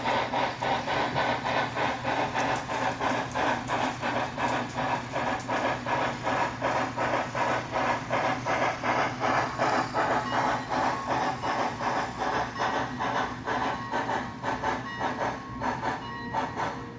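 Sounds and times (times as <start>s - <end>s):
steam exhaust chuffs from speaker: 0.0s - 16.9s.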